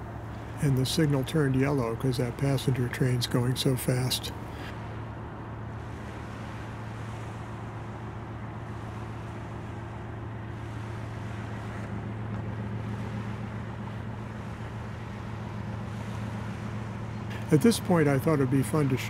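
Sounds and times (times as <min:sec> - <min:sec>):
diesel locomotive engine drone: 0:00.0 - 0:19.0
lapping waves: 0:00.0 - 0:19.0.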